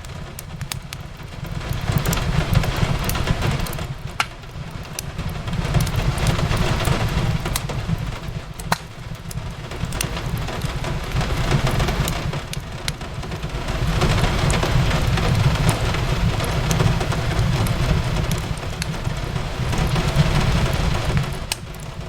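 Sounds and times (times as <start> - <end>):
fireplace crackling and popping: 0.0 - 22.0
rain on a window: 0.0 - 22.0.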